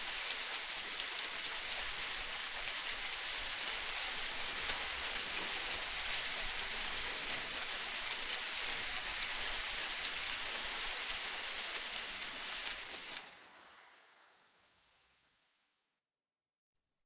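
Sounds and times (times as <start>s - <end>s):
water hissing like rain: 0.0s - 15.5s.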